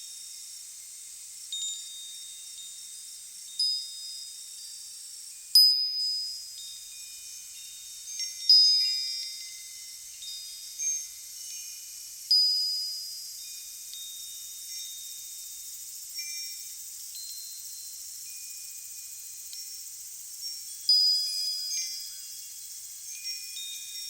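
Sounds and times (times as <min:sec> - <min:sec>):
steady high hiss: 0:00.0 - 0:24.0
wind chimes ringing: 0:01.5 - 0:24.0.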